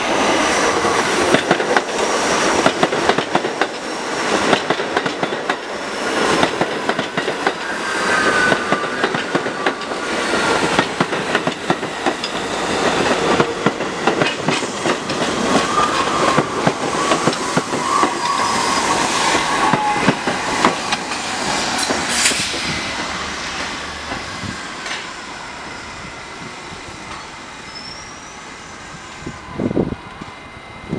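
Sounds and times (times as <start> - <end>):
train brakes whining: 0.0 - 30.9.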